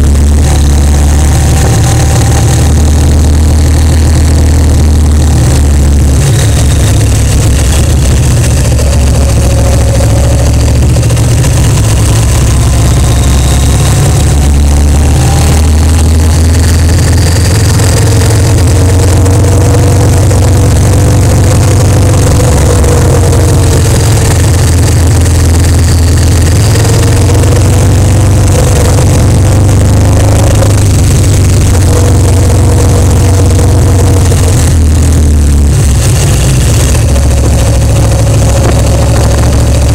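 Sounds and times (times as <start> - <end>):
motorcycle engine rumbling: 0.0 - 39.9
wind noise: 0.0 - 39.9.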